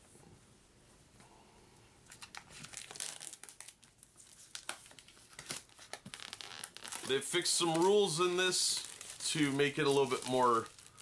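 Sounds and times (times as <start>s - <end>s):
plastic wrap tearing and crackling: 2.1s - 11.0s.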